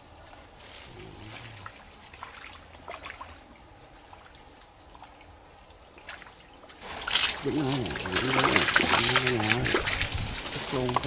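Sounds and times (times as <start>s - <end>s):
water trickling and dripping: 1.3s - 11.0s.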